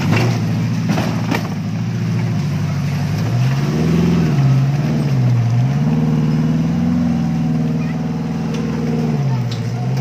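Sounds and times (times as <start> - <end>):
off-road vehicle engine revving: 0.0 - 10.0.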